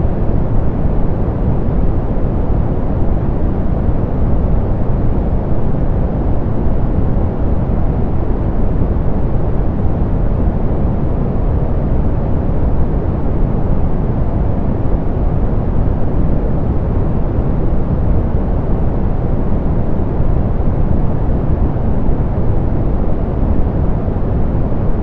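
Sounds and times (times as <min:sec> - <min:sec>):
low pink noise hiss: 0:00.0 - 0:25.0.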